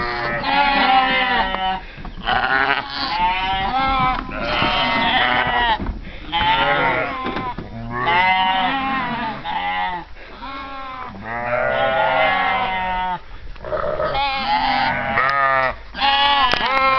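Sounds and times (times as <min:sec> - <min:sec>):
sheep bleating: 0:00.0 - 0:13.2, 0:13.8 - 0:16.9.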